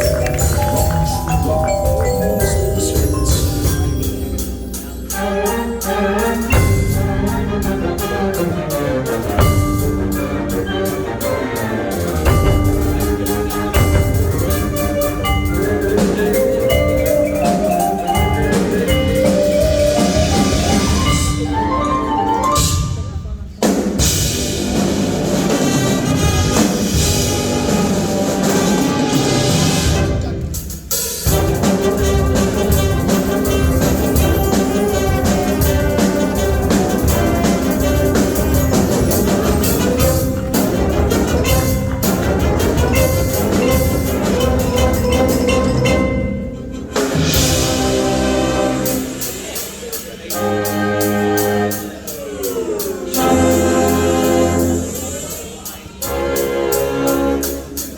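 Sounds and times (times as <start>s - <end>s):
mallet percussion runs: 0.0s - 50.3s
marching band playing: 0.0s - 57.9s.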